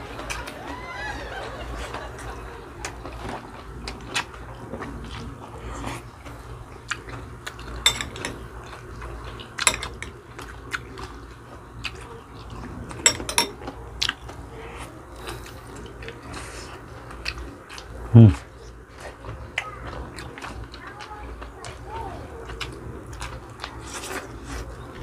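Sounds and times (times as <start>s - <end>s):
low steady hum: 0.0s - 25.0s
people chewing food: 0.0s - 25.0s.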